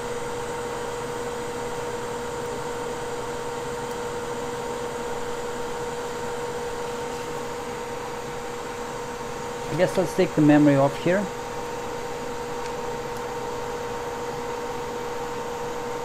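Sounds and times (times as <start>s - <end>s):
hot-air station blowing: 0.0s - 16.0s.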